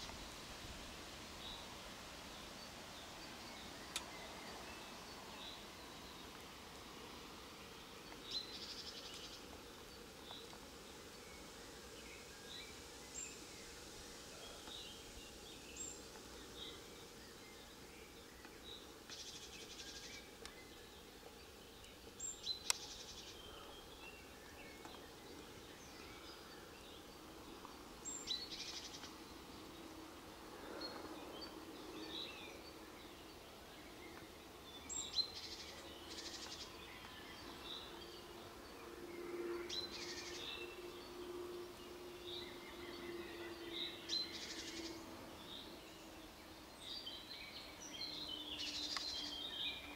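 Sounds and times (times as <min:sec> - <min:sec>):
songbird chirping: 0:00.0 - 0:49.9.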